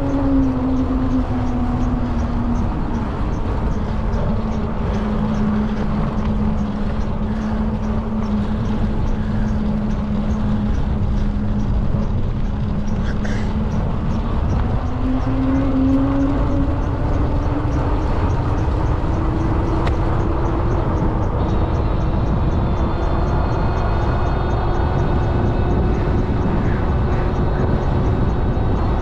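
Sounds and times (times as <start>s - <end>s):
electric bike whine: 0.0s - 29.0s
faint regular ticking: 0.0s - 29.0s
wind rumble on microphone: 0.0s - 29.0s.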